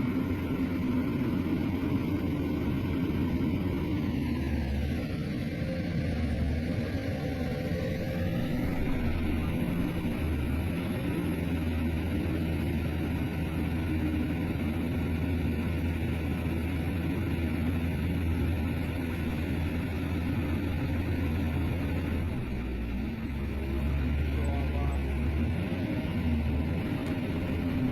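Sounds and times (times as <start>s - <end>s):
diesel engine drone: 0.0s - 27.9s.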